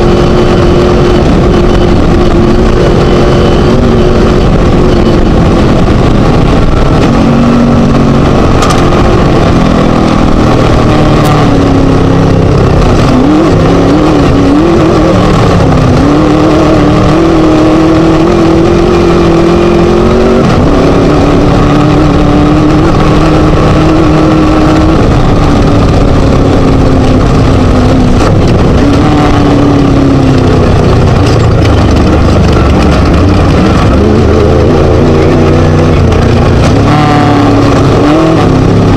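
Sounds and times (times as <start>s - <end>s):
race buggy engine revving: 0.0s - 38.9s.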